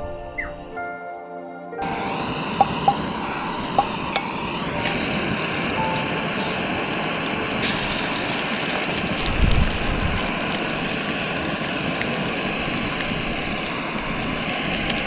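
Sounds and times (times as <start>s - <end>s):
wind gust buffeting microphone: 1.8s - 15.0s
wind rushing: 1.8s - 15.0s.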